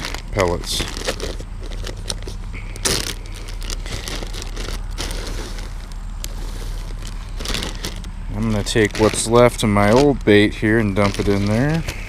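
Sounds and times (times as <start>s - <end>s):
pellets rattling: 0.0s - 12.0s
plastic bag crinkling: 0.0s - 12.0s.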